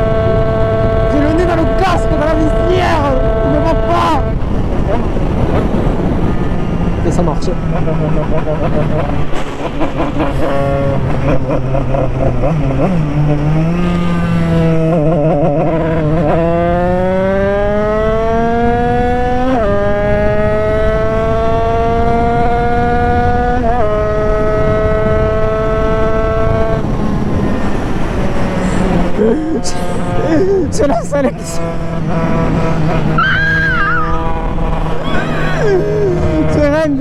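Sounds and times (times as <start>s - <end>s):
two-stroke dirt bike accelerating: 0.0s - 37.0s.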